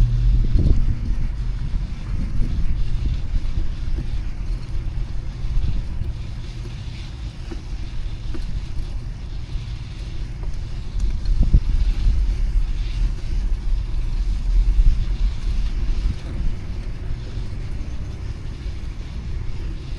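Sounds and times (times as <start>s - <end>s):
low rumble of passing vehicles: 0.0s - 19.9s.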